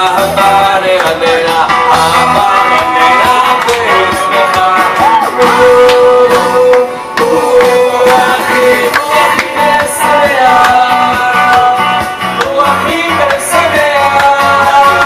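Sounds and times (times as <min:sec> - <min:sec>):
song with guitar and beat: 0:00.0 - 0:15.0.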